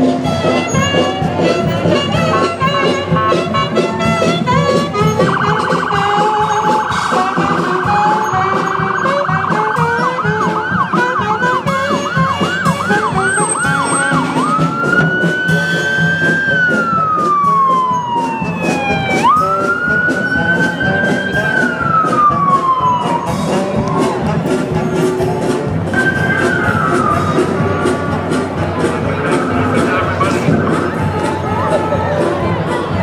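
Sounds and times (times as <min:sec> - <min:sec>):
band music: 0:00.0 - 0:33.0
police siren yelping and wailing: 0:00.4 - 0:25.2, 0:25.9 - 0:32.7.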